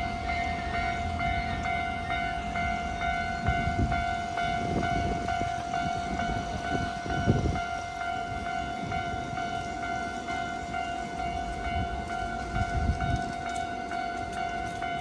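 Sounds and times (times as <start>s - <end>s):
level-crossing warning bell: 0.0s - 15.0s
train rumbling past: 0.0s - 15.0s.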